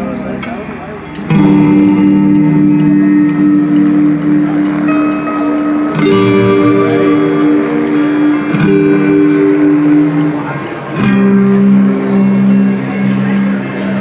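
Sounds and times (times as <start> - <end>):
live band playing: 0.0 - 14.0
ringing guitar chords: 0.0 - 14.0.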